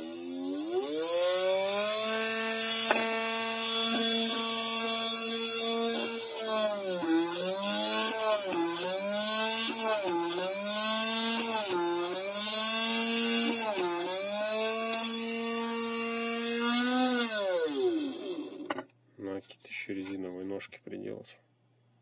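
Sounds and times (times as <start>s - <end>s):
small drill motor whining: 0.0s - 18.8s.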